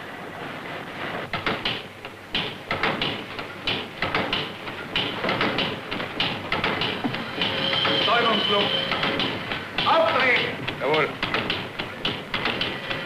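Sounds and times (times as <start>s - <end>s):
steady hiss: 0.0s - 13.0s
metallic clanks of machinery: 1.3s - 13.0s.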